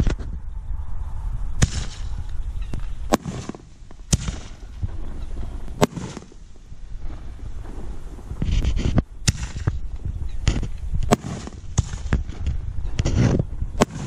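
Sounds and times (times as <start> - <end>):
fireworks bangs: 1.6 - 14.0.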